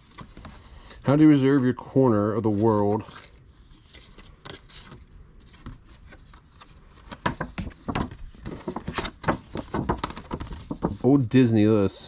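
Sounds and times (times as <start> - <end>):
paper rustling and crinkling: 0.0 - 1.6, 2.2 - 11.3.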